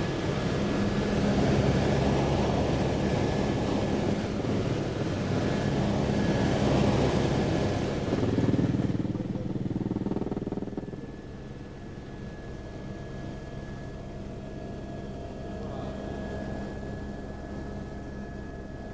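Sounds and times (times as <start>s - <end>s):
helicopter engine and rotor noise: 0.0s - 18.9s.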